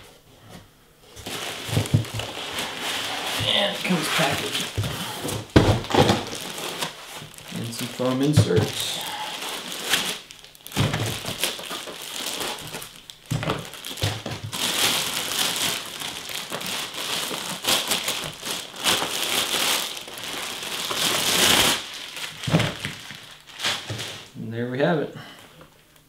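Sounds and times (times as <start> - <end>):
plastic wrapping crinkling: 1.0 - 24.4.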